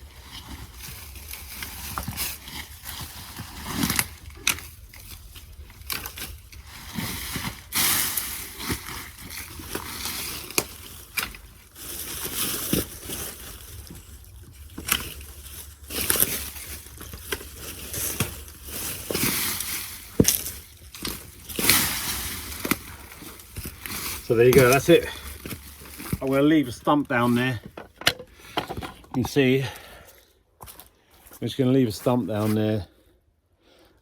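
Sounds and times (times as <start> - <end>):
branches rustling and swishing: 0.0 - 27.5.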